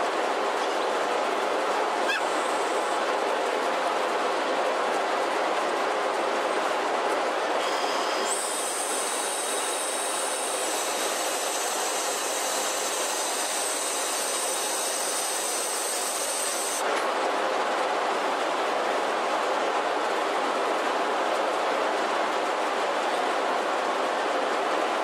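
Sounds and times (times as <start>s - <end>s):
high steady hiss: 0.0s - 25.0s.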